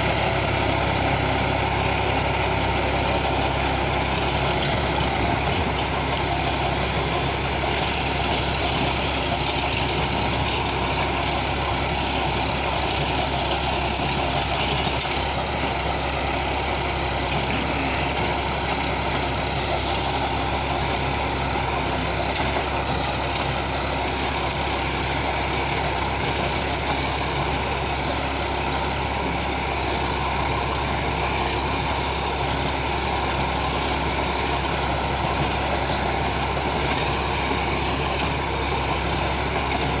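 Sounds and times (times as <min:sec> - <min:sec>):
tiller blades churning soil: 0:00.0 - 0:40.0
tractor diesel engine running: 0:00.0 - 0:40.0.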